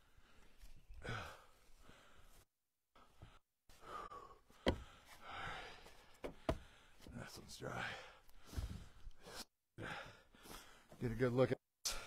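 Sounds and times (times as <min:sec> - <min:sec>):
heavy breathing: 0:00.0 - 0:11.0.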